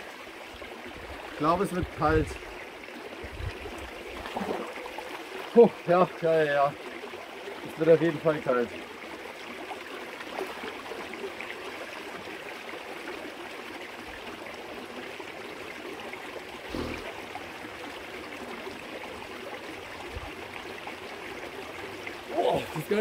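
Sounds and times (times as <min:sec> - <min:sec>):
stream rushing into rock pool: 0:00.0 - 0:23.0.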